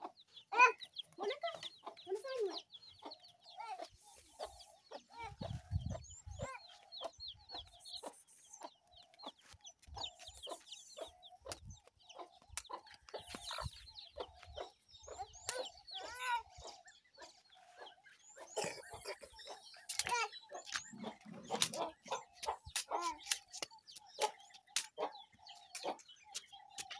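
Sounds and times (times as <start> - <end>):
chicks peeping: 0.0 - 26.9
hen clucking: 0.0 - 26.9.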